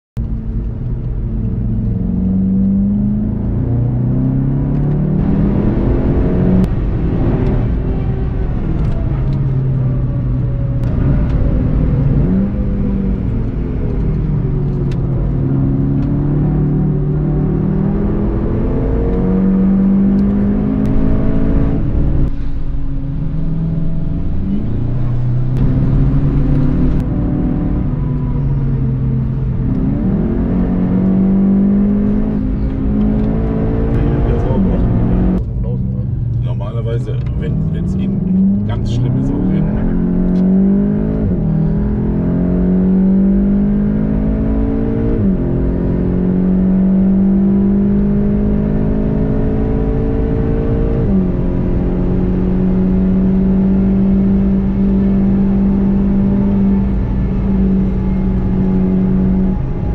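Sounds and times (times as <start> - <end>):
car engine under hard driving: 0.2 - 59.9.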